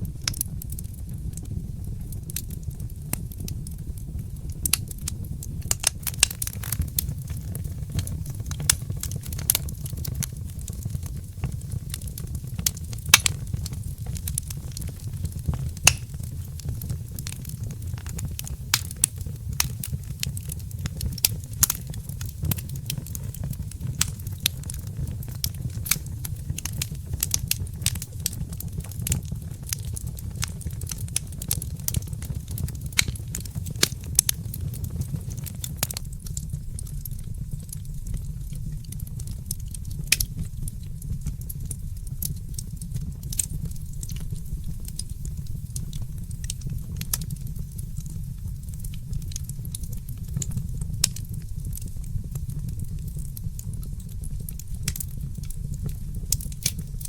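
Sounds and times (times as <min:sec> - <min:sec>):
low rumble of fire: 0:00.0 - 0:57.0
wood fire crackling: 0:00.0 - 0:57.0.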